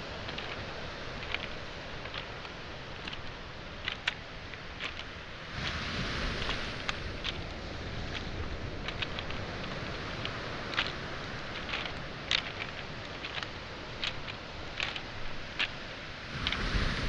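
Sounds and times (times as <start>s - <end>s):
footsteps on pebbles: 0.0s - 16.9s
waves washing on shore: 0.0s - 17.0s.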